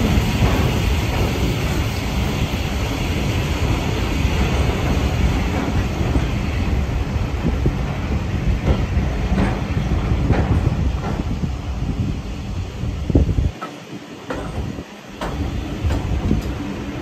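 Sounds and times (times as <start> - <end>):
rail joint clicks: 0.0 - 17.0
train wheels rumbling on track: 0.0 - 17.0.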